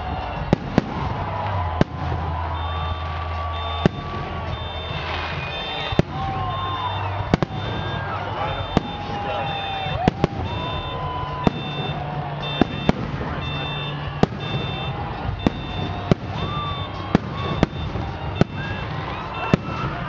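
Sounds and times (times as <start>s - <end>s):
firework shells bursting: 0.1s - 20.0s
high-pitched beeping: 2.5s - 20.0s.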